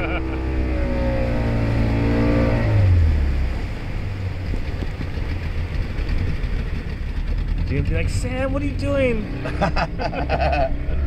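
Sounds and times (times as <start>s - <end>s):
boat engine running: 0.0s - 11.0s
hiss of water and wind: 0.0s - 11.0s.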